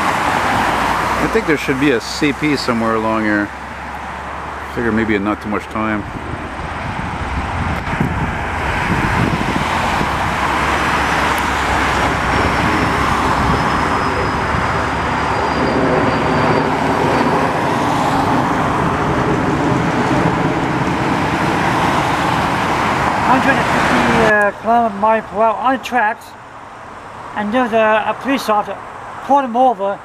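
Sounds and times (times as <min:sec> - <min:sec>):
cars passing close by: 0:00.0 - 0:30.0.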